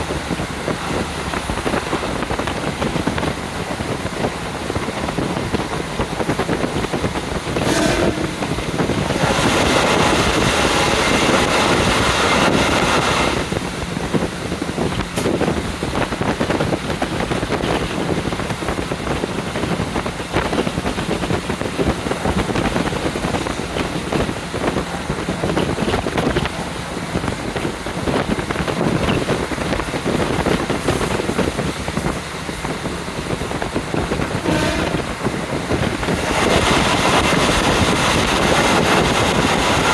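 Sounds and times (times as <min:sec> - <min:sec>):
train running noise: 0:00.0 - 0:39.9
wind rushing through train window: 0:00.0 - 0:39.9.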